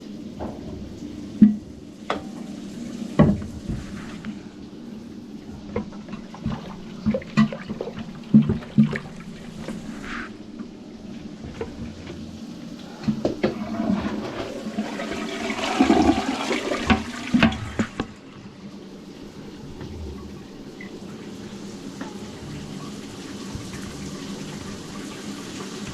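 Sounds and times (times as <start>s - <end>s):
steady low hum: 0.0s - 25.0s
toilet flushing: 0.0s - 25.9s.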